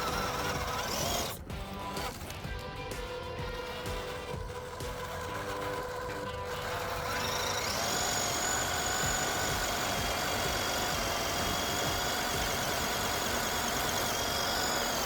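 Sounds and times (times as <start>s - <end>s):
electric motor and gearbox whining: 0.0s - 15.0s.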